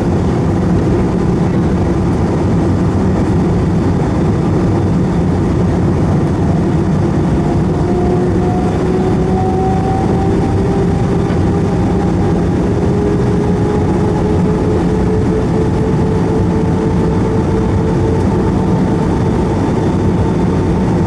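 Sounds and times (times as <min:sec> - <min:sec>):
engine and airflow rumble: 0:00.0 - 0:21.0
whining engine tone: 0:00.0 - 0:21.0.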